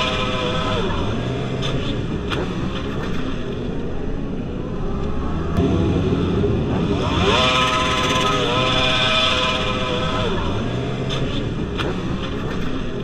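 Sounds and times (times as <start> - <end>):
motorcycle engine revving: 0.0 - 3.1, 5.2 - 13.0.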